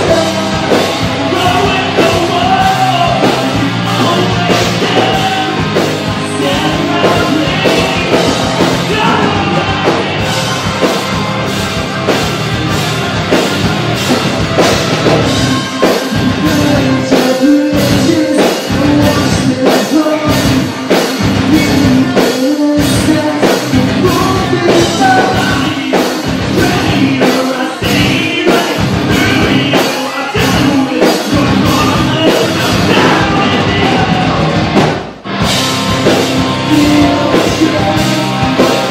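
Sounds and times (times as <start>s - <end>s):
singer's vocals: 0.0s - 11.5s, 14.9s - 34.8s, 36.0s - 38.9s
hard rock band playing: 0.0s - 38.9s.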